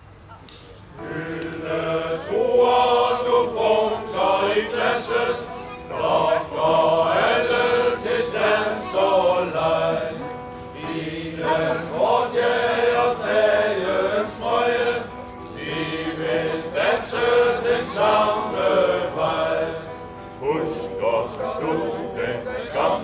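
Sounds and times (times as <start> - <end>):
men's choir singing: 0.9 - 23.0.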